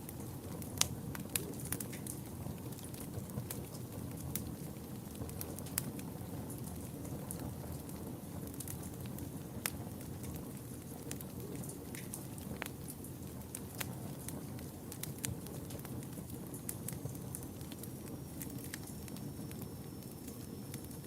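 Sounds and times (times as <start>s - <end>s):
fire crackling: 0.0s - 21.0s.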